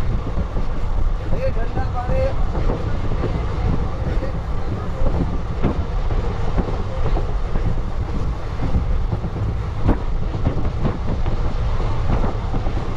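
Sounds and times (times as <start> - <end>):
train running rumble: 0.0 - 12.9
wheels clacking on rails: 0.0 - 12.9.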